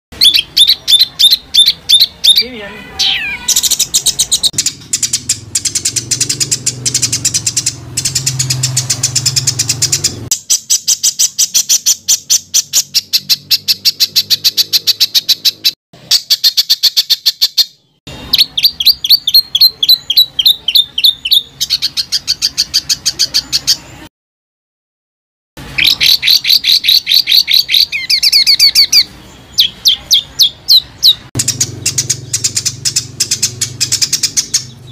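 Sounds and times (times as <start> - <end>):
songbird harsh repeated notes: 0.2 - 24.1, 25.6 - 34.9.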